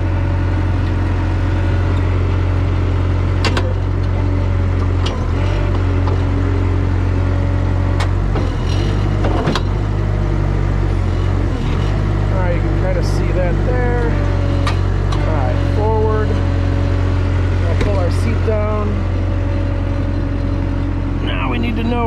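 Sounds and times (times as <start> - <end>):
skid steer diesel engine running: 0.0 - 22.0.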